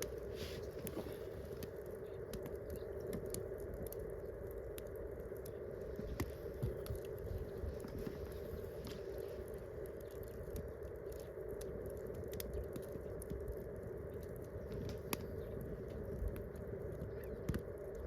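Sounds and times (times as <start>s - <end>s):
campfire snaps and pops: 0.0s - 18.0s
steady fire noise: 0.0s - 18.0s.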